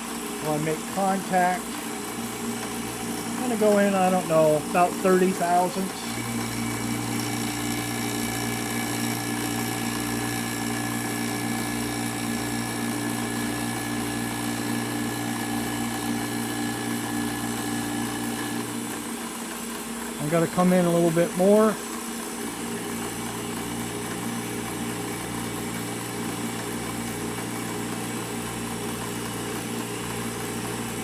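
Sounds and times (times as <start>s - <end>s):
milling machine cutting metal: 0.0s - 31.0s.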